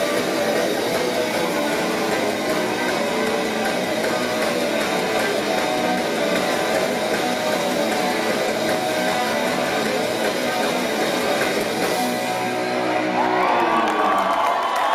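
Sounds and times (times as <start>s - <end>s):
live rock band playing: 0.0s - 14.9s
loud electric guitar: 0.0s - 14.9s.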